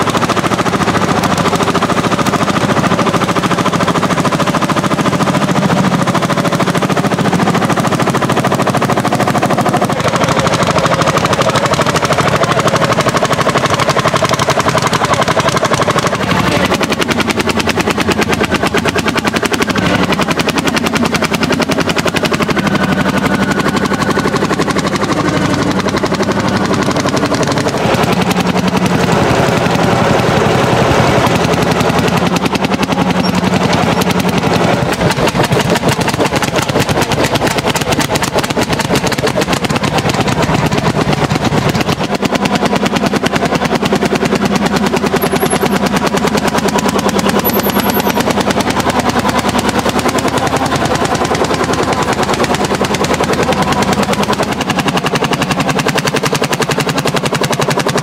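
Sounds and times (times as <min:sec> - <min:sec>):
tractor engines popping: 0:00.0 - 0:58.0.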